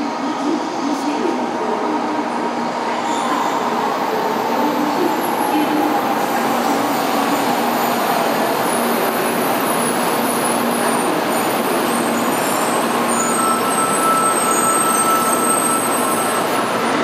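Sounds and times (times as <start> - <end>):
train braking with rumble and hiss: 2.3 - 17.0.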